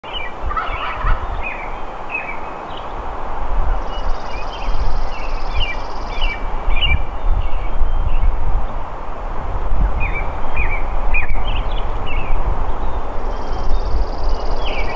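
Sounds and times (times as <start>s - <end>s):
wind rushing: 0.0s - 14.9s
songbirds chirping and whistling: 0.1s - 3.0s, 3.7s - 8.3s, 10.0s - 14.9s.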